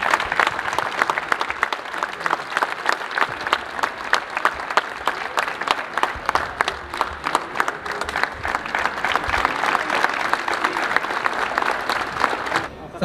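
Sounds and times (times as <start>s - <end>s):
crowd applauding: 0.0s - 12.7s.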